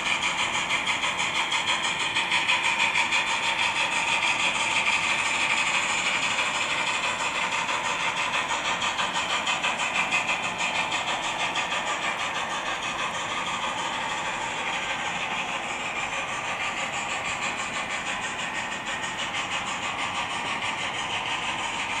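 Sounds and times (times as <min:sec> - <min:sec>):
model train running on track: 0:00.0 - 0:22.0
steam locomotive chuffs with hiss: 0:00.0 - 0:22.0.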